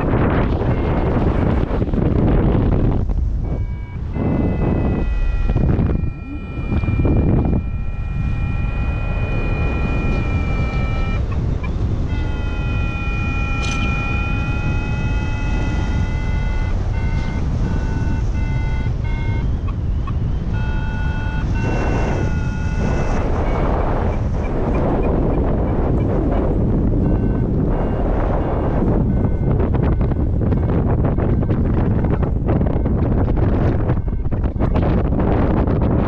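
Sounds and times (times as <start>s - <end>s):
variometer electronic tone and beeps: 0.0s - 35.1s
wind on microphone: 0.0s - 36.0s.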